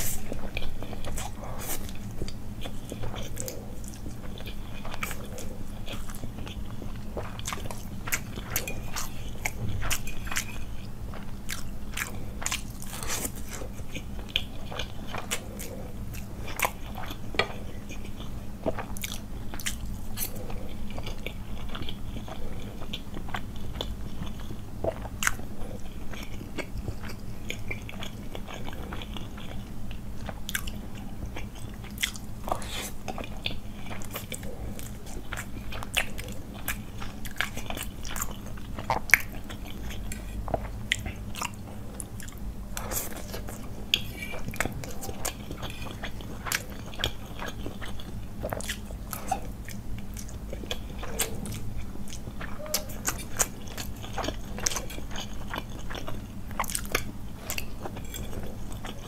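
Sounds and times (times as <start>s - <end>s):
person chewing and slurping: 0.0s - 59.0s
steady low hum: 0.0s - 59.0s.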